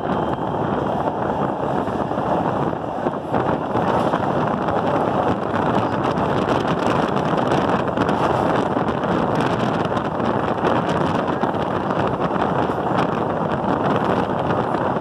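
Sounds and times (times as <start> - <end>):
metro train rumbling in tunnel: 0.0 - 15.0.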